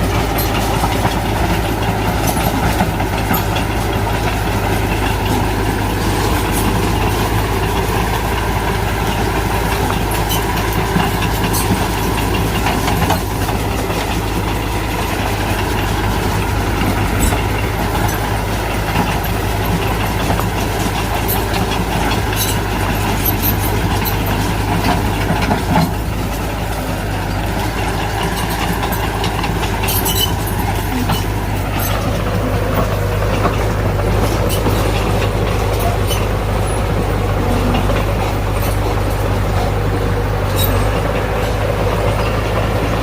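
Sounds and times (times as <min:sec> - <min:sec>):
metal clanks: 0:00.0 - 0:42.6
diesel engine running: 0:00.0 - 0:43.0.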